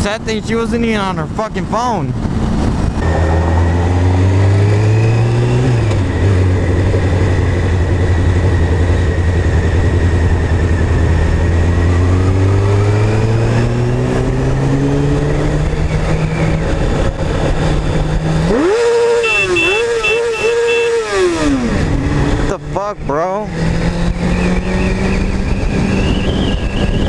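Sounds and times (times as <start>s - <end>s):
motorcycle engine revving: 2.1s - 27.0s.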